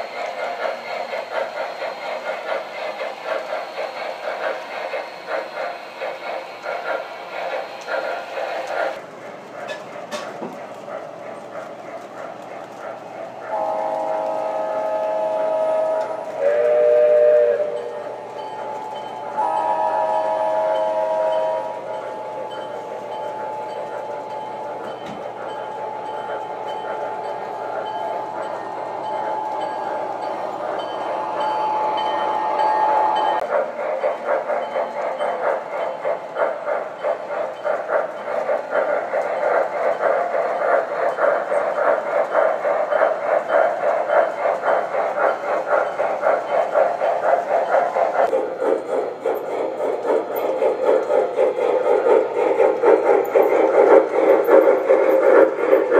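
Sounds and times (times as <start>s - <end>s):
model steam locomotive chuffing: 0.0s - 55.9s.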